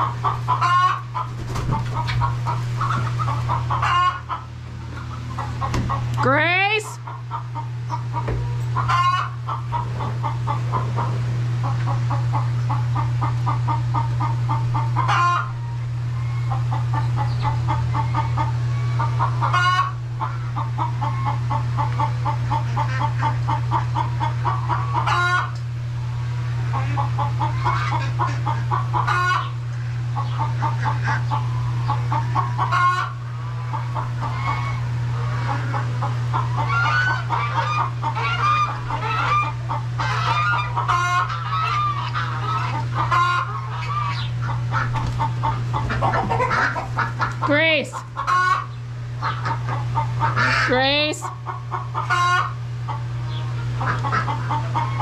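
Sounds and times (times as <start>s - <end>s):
chickens clucking: 0.0s - 55.0s
steady low hum: 0.0s - 55.0s.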